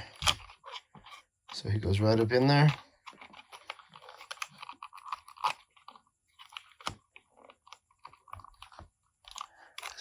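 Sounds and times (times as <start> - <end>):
plastic toy clicks and creaks: 0.0 - 10.0.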